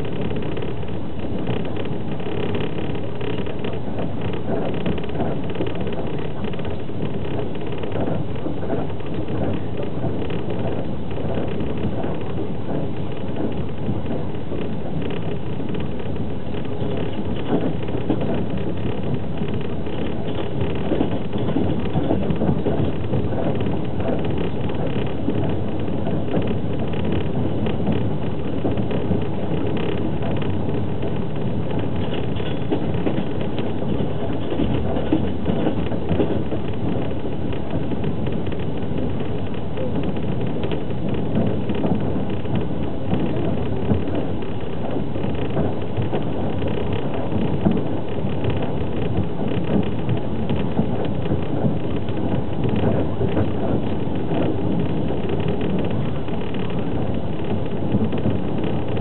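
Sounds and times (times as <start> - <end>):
small rattles and ticks: 0.0 - 59.0
train rumbling on rails: 0.0 - 59.0.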